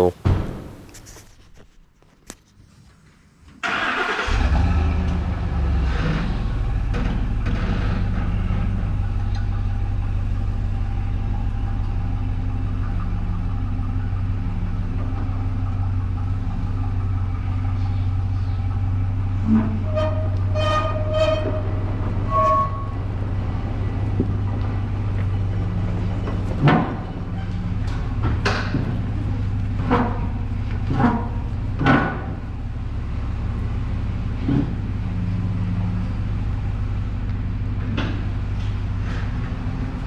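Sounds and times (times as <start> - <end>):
vehicle engine running under load: 4.3 - 40.0.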